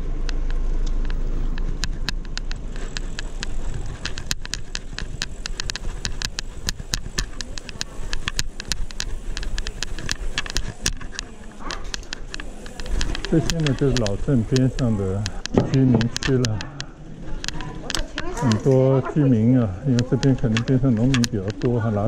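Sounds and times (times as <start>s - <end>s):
bicycle clicking and rattling: 0.0s - 22.0s.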